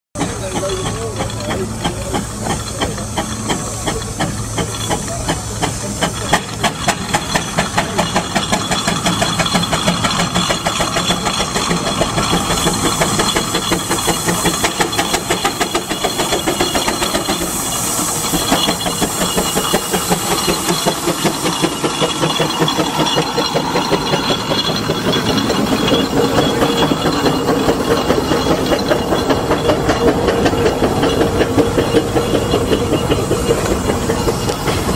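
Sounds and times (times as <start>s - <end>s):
hissing steam: 0.2s - 34.9s
steam engine exhaust chuffs: 0.2s - 34.9s.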